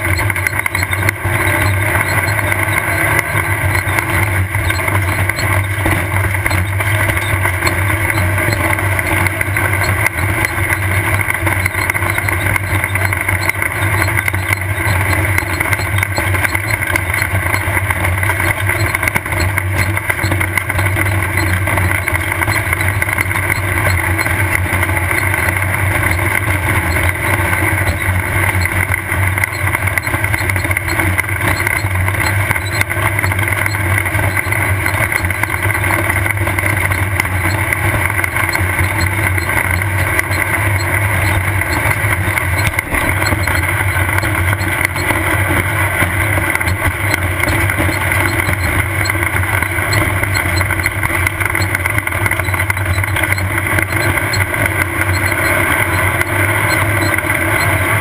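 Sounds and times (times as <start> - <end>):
race car engine running: 0.0 - 58.0.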